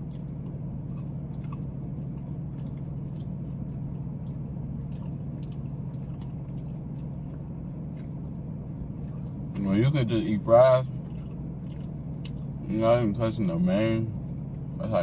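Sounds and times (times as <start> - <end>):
close-up chewing: 0.0 - 13.5
steady low hum: 0.0 - 15.0.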